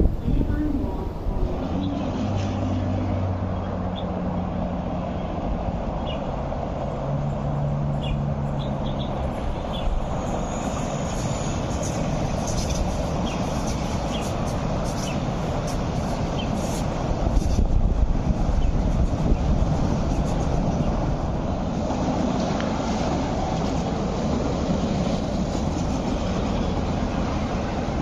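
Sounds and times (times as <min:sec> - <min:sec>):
electric train rushing rumble: 0:00.0 - 0:28.0
passing road traffic: 0:00.0 - 0:28.0.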